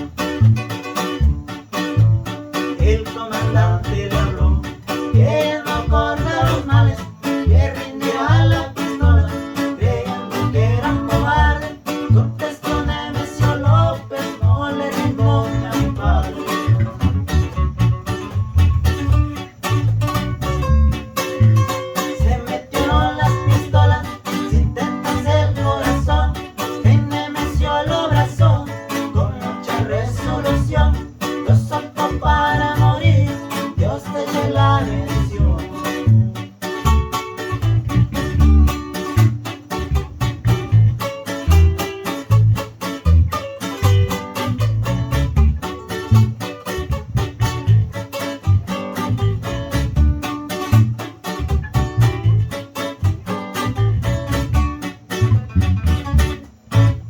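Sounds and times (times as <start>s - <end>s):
bouncing bass line: 0.0s - 57.0s
plucked guitar melody: 0.0s - 57.0s
strummed guitar chords: 0.0s - 57.0s.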